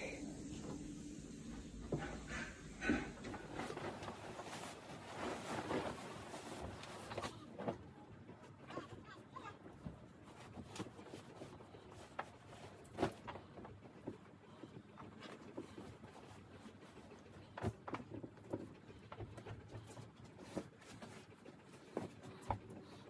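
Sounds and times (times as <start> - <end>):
bedding rustling and thumping: 0.4 - 23.0.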